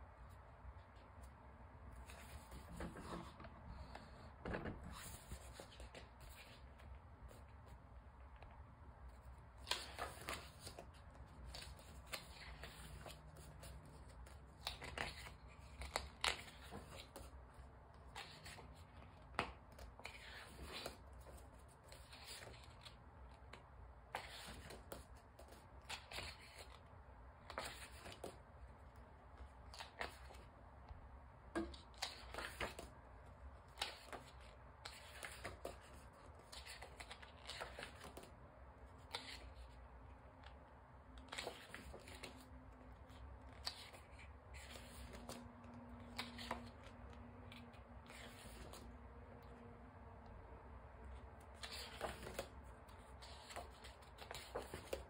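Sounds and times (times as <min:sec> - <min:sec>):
paper pages and cards rustling: 0:00.2 - 0:49.6, 0:51.0 - 0:55.0.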